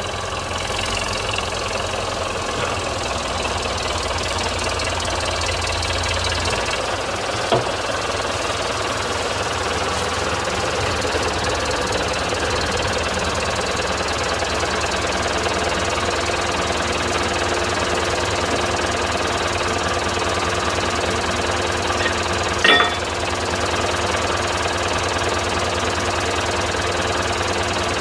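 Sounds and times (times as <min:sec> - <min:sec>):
band sawmill engine running: 0:00.0 - 0:28.0.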